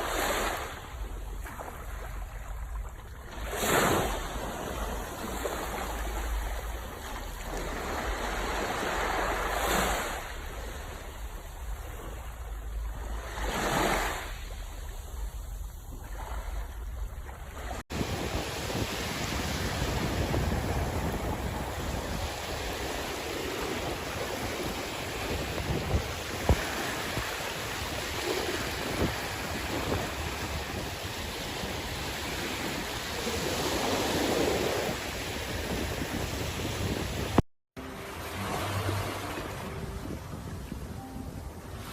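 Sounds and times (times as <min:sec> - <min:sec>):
sea waves washing on shore: 0:00.0 - 0:41.9.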